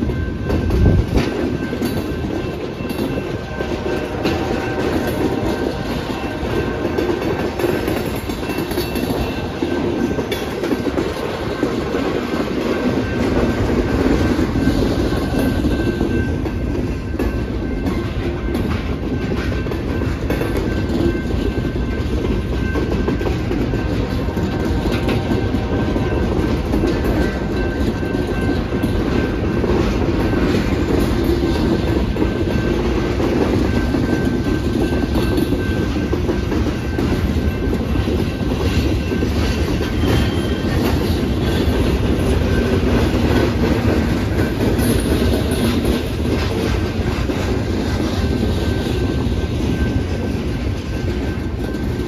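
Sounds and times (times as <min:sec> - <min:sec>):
freight train rumbling past: 0:00.0 - 0:52.0
wheels clicking over rail joints: 0:00.0 - 0:52.0.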